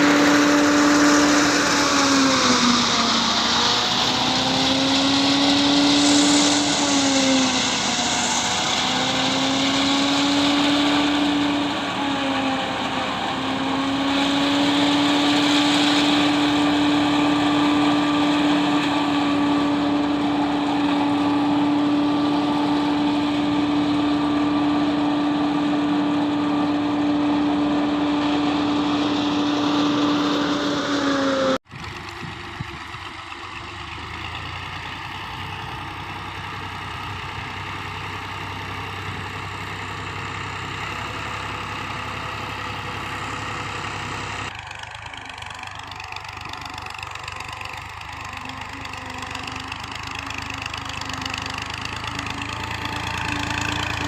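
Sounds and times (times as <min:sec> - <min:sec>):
harvester engine whining: 0:00.0 - 0:54.0.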